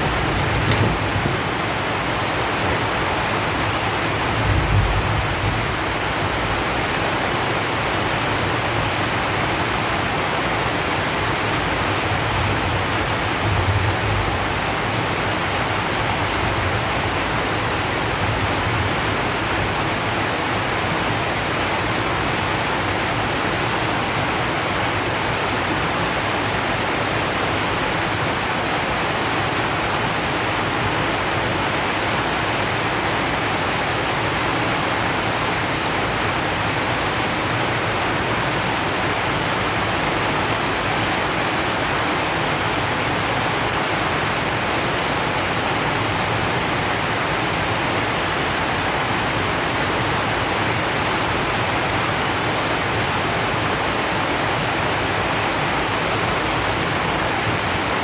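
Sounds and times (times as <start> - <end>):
heavy rain on metal roof: 0.0 - 58.0.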